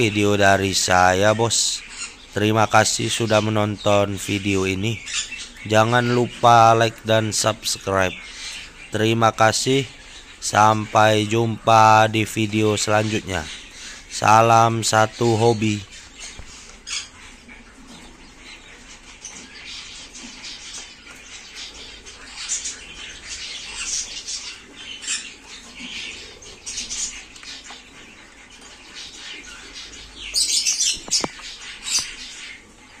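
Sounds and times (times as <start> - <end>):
quail chirping high peeps: 0.0 - 33.0.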